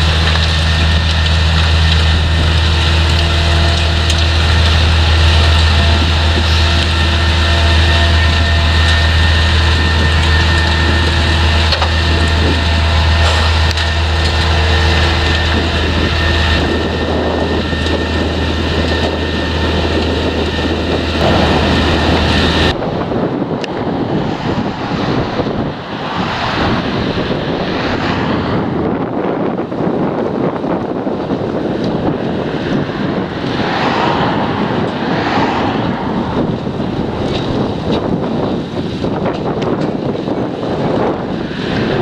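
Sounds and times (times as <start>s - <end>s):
diesel engine humming: 0.0s - 41.7s
wind on microphone: 0.0s - 42.0s.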